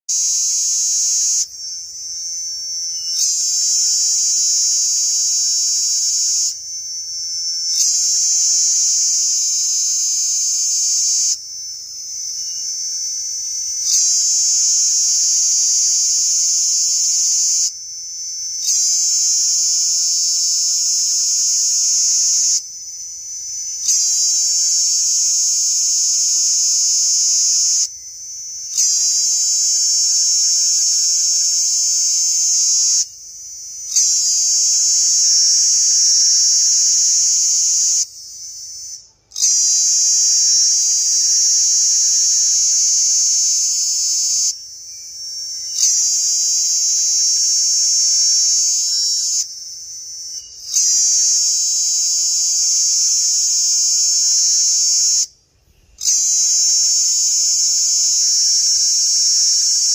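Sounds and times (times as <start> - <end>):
cicada buzzing: 0.1 - 59.9.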